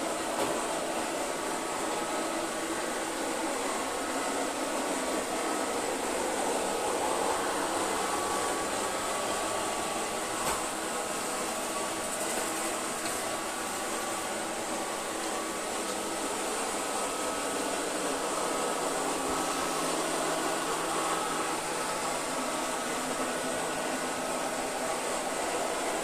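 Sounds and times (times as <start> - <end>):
robot vacuum cleaner whirring: 0.0 - 26.0.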